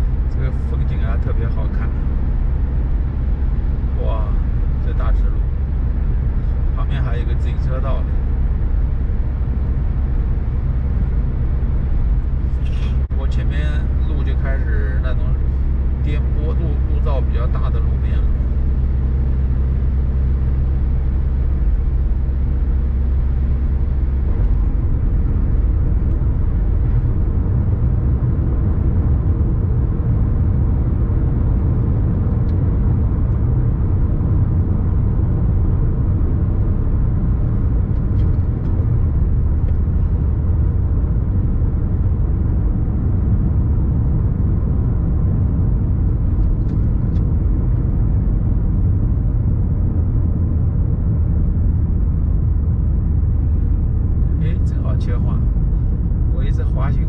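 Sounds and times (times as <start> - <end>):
van engine and tyre rumble: 0.0 - 57.0.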